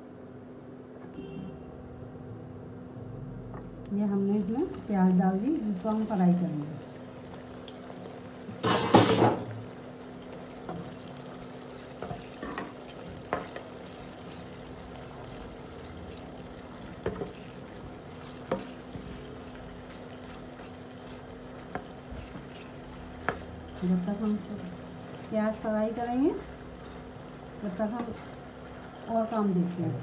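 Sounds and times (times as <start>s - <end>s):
onions sizzling in hot oil: 4.1s - 29.9s.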